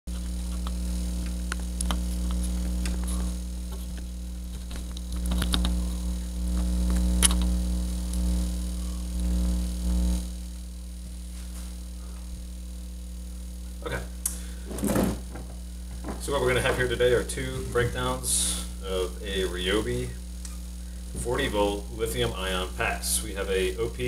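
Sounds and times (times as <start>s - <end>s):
electrical mains hum: 0.1s - 24.0s.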